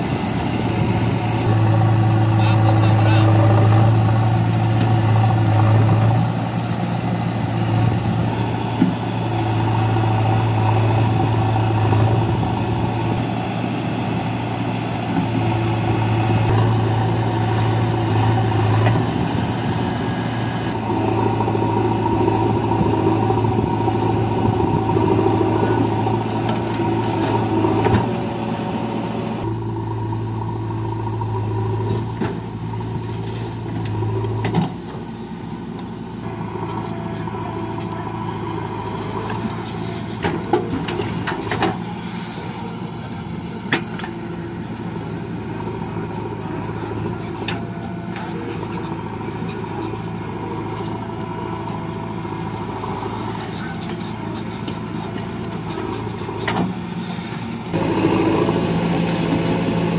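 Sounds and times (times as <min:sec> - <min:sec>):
diesel engines humming: 0:00.0 - 0:59.9.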